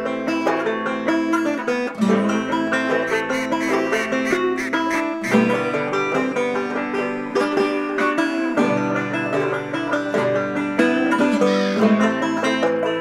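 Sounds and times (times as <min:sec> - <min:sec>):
bluegrass banjo music: 0:00.0 - 0:13.0
guitar: 0:00.0 - 0:13.0.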